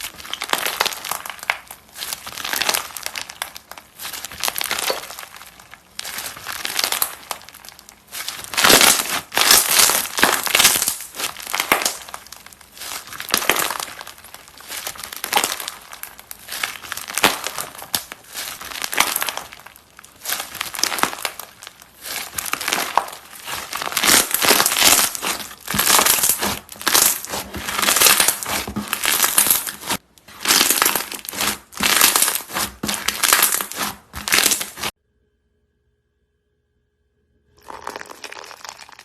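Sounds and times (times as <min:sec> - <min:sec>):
slime crackling and crunching: 0:00.0 - 0:35.0, 0:37.6 - 0:39.0.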